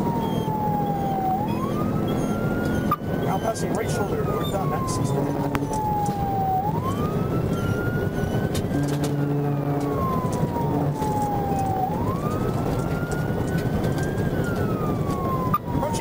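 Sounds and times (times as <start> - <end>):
police siren wailing: 0.0 - 16.0
road and engine noise: 0.0 - 16.0.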